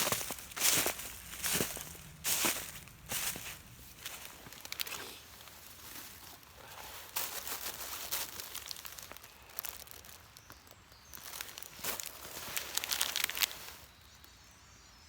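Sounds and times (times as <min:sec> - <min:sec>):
crackling and rustling: 0:00.0 - 0:14.0.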